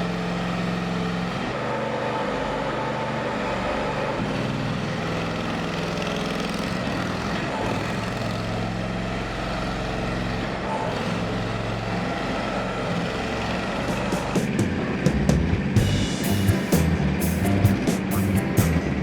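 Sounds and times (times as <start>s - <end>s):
mini excavator engine running: 0.0s - 19.0s.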